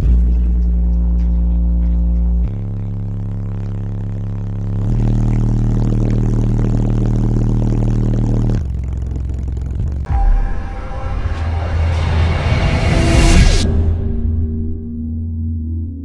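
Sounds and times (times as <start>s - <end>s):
bass-heavy music from subwoofer: 0.0s - 15.7s.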